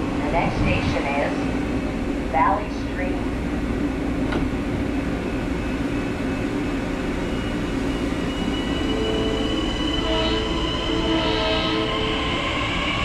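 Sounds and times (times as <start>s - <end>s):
train rumble and hiss: 0.0s - 13.0s.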